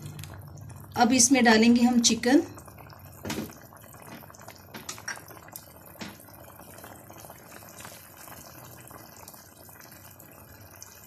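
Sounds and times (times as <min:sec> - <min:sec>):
soup bubbling in a pot: 0:00.0 - 0:11.0.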